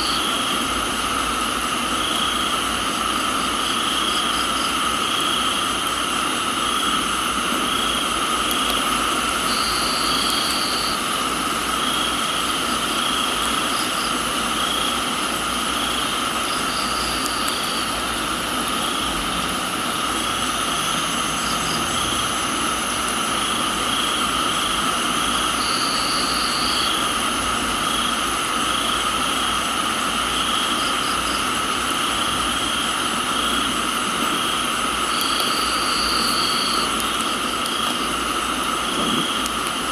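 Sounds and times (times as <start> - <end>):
high buzzing insect call: 0.0 - 0.6, 1.2 - 39.9
crickets trilling: 0.0 - 39.9
pulsing insect call: 0.0 - 39.9
rain hiss: 0.0 - 39.9.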